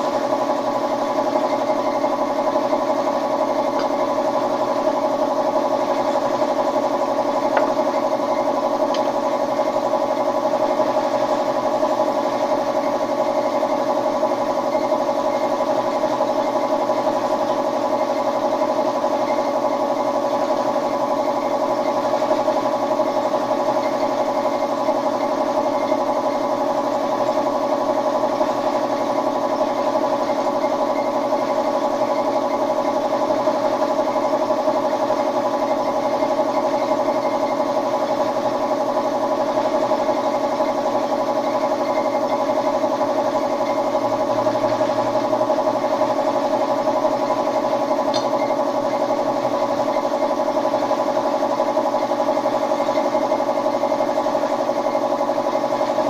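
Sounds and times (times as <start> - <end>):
air compressor running: 0.0 - 56.0.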